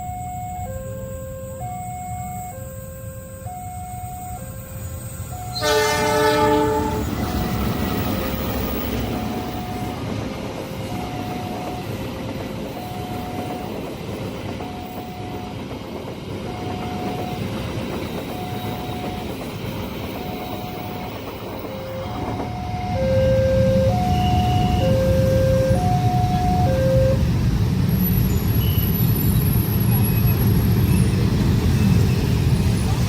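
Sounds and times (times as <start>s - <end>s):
two-tone crossing warning alarm: 0.0s - 27.4s
train rumbling with wheel clatter: 4.0s - 33.0s.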